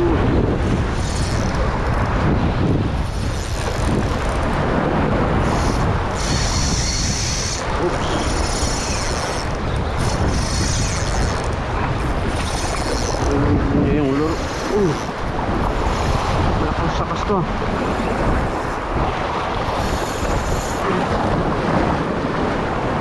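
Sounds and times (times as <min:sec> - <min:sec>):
surf washing over rocks: 0:00.0 - 0:23.0
wind rumble on microphone: 0:00.0 - 0:23.0.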